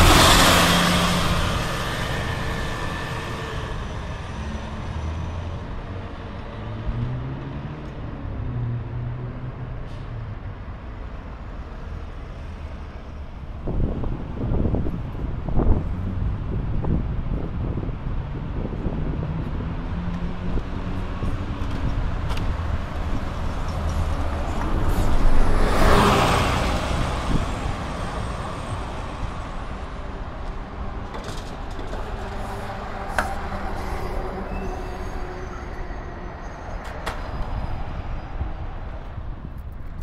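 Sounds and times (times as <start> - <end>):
bus passing: 0.0 - 40.0
street traffic: 0.0 - 40.0.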